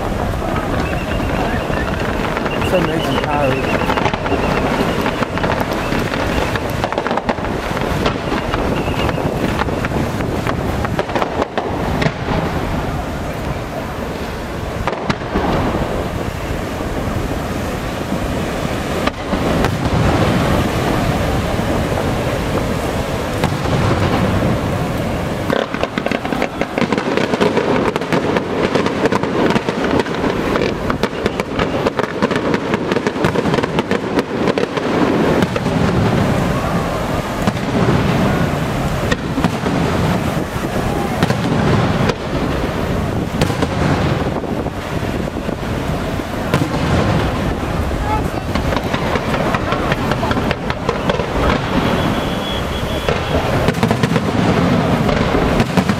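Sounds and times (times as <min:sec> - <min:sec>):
fireworks bursting in a rumble: 0:00.0 - 0:55.9
rapid crackling fireworks reports: 0:00.0 - 0:55.9.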